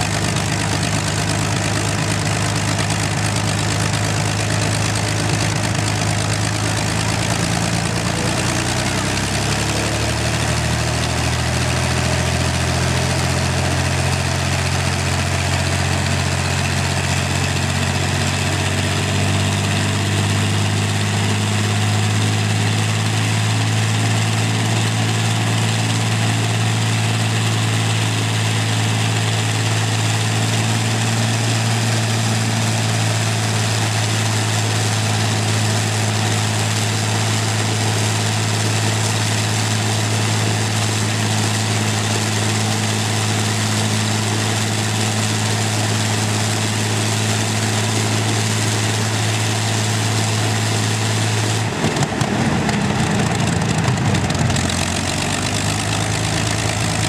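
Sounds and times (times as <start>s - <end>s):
aero engine running steadily: 0.0s - 57.0s.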